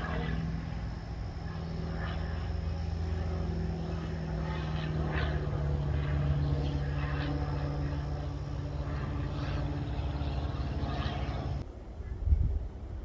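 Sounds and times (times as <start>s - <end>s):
engine drone: 0.0s - 11.6s.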